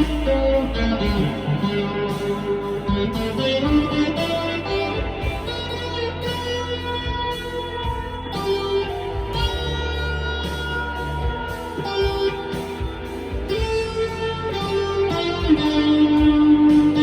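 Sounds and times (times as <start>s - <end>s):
electric guitar single notes: 0.0s - 17.0s.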